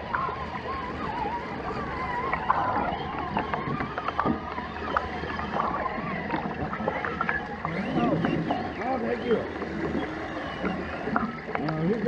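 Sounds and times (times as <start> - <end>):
creek water gurgling: 0.0 - 12.0.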